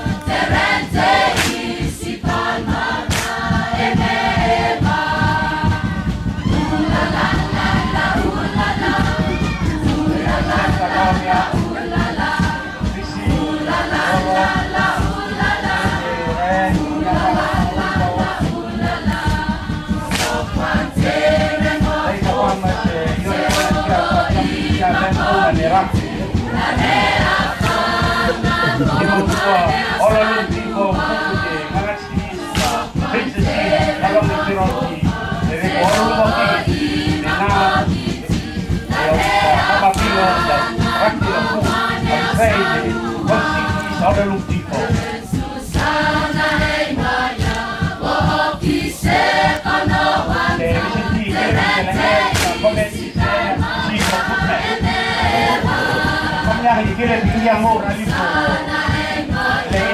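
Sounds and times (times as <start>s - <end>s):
group singing in chorus: 0.0s - 59.9s.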